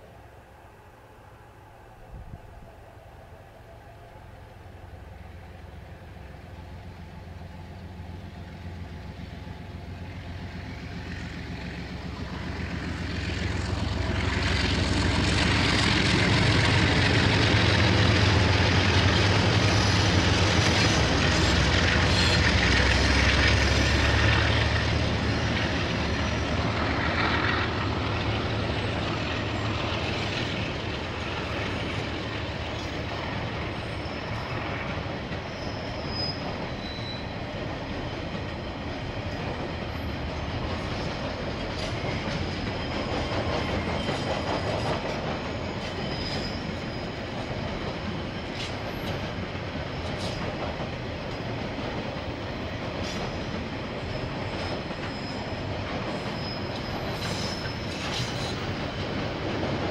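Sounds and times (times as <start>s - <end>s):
train engine rumble: 0.0s - 59.9s
wheels on rails: 8.6s - 59.9s.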